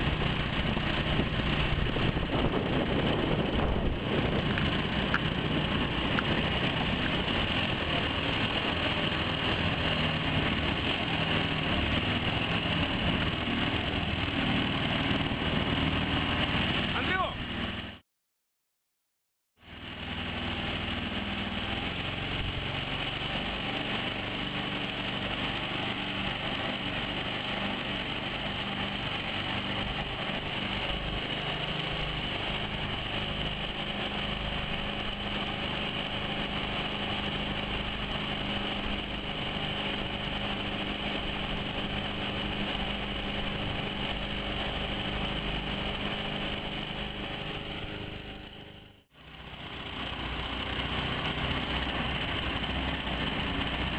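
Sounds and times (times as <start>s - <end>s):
outboard motor engine running: 0.0s - 18.0s, 19.6s - 53.9s.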